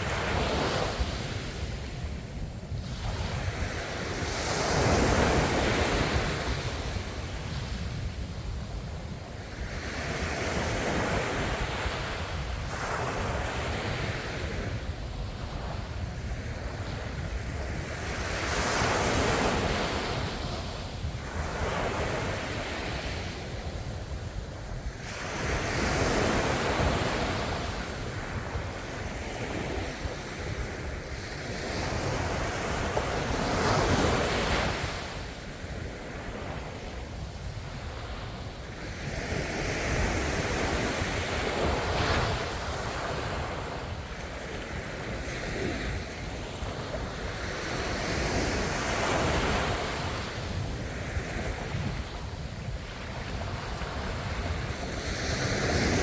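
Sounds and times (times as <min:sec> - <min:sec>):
ocean waves breaking on shore: 0:00.0 - 0:56.0
wind on microphone: 0:00.0 - 0:56.0.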